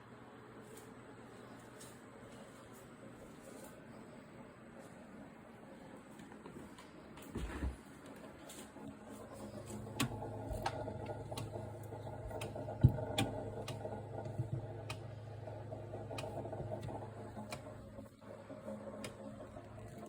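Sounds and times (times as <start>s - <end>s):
refrigerator compressor humming: 0.0s - 20.0s.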